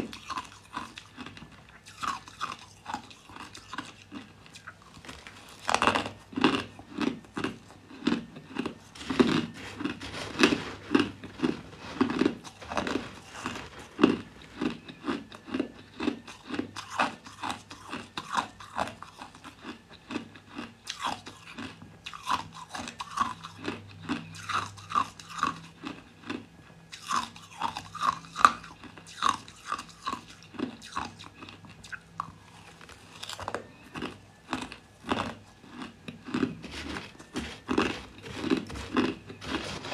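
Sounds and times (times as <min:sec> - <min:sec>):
chewing crushed ice: 0:00.0 - 0:39.9
faint low hum: 0:00.0 - 0:39.9.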